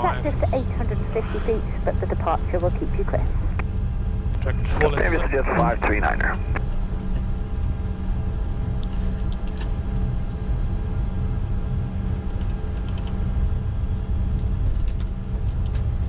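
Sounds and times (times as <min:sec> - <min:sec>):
faint constant hum: 0:00.0 - 0:16.0
low cockpit rumble: 0:00.0 - 0:16.0.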